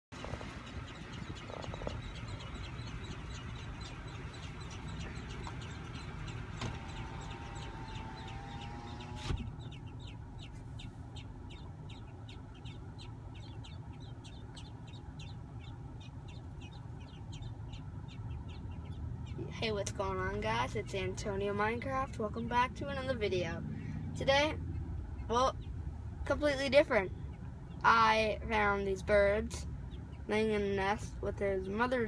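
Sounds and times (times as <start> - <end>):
baby birds peeping: 0.1 - 32.0.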